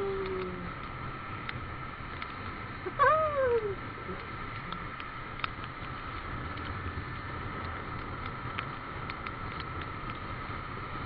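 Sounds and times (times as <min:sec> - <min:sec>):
motorcycle engine hum: 0:00.0 - 0:11.0
road and wind noise: 0:00.0 - 0:11.0.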